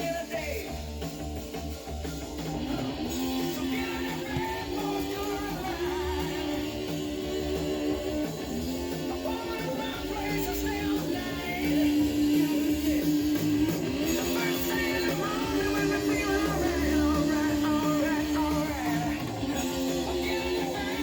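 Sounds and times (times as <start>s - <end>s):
rock music with electric guitar: 0.0s - 21.0s.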